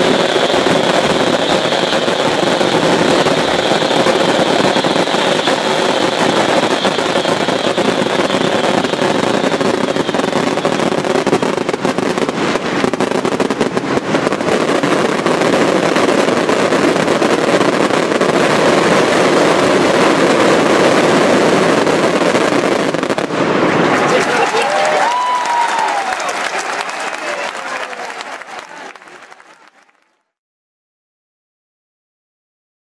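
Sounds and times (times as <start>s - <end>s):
fireworks crackling barrage: 0.0s - 30.3s.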